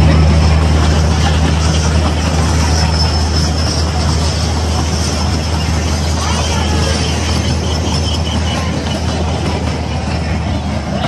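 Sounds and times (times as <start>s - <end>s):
low engine hum: 0.0s - 11.0s
train rumbling past: 0.0s - 11.0s.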